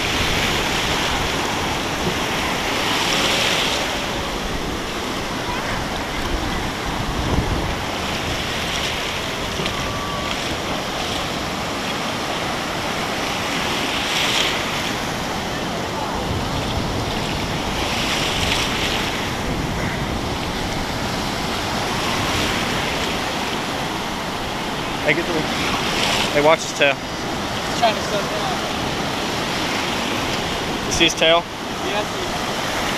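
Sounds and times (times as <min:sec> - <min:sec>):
ocean surf breaking: 0:00.0 - 0:32.9
wind buffeting microphone: 0:00.0 - 0:32.9.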